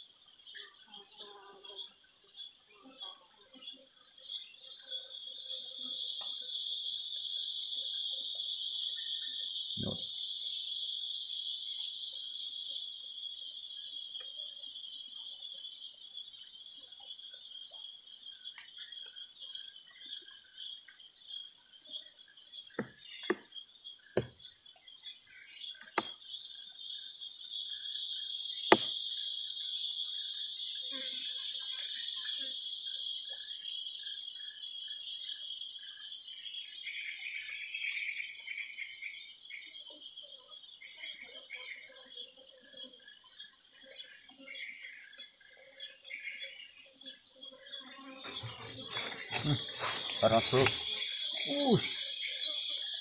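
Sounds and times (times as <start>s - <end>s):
shrill chorus of insects: 0.0s - 53.0s.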